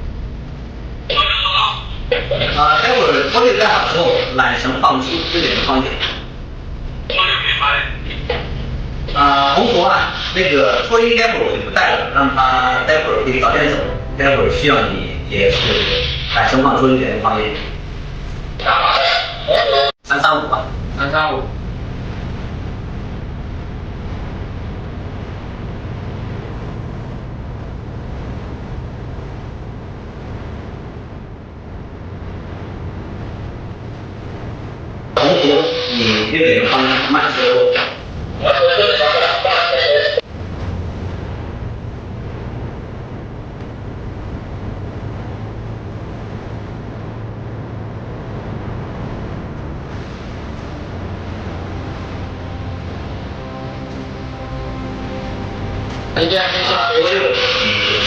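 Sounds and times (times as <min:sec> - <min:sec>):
wind aboard a ship: 0:00.0 - 0:53.6
low ship rumble: 0:00.0 - 0:58.0.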